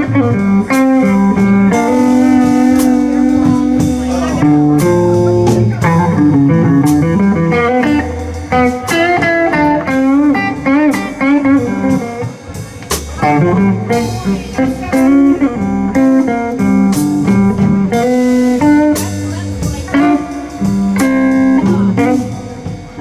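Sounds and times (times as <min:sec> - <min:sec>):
bass and drums: 0:00.0 - 0:23.0
electric guitar lead: 0:00.0 - 0:23.0.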